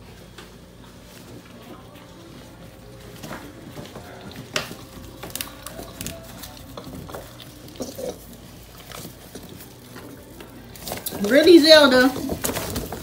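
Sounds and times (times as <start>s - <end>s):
plastic rustling under puppies: 0.0s - 13.0s.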